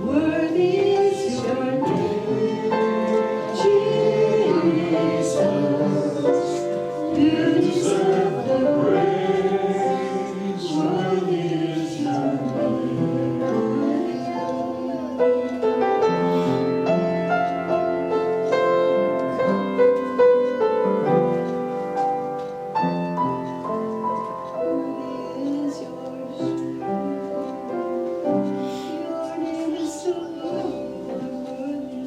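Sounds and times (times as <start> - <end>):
keyboard playing worship music: 0.0 - 32.0.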